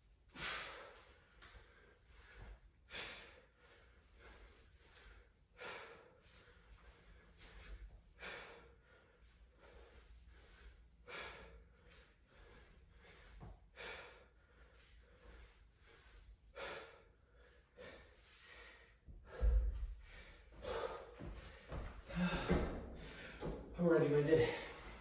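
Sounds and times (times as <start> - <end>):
man breathing hard: 0.3 - 23.8, 24.4 - 25.0.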